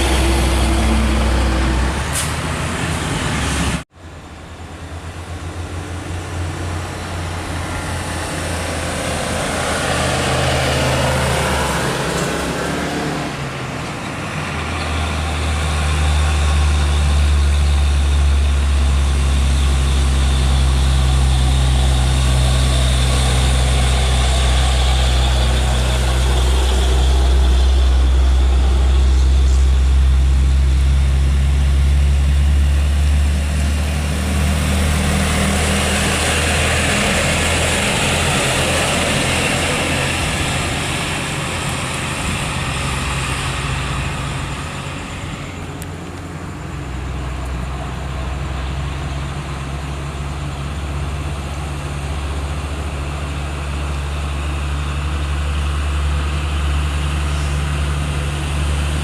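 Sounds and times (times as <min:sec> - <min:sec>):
road noise hiss: 0:00.0 - 0:59.0
truck diesel engine drone: 0:00.0 - 0:59.0.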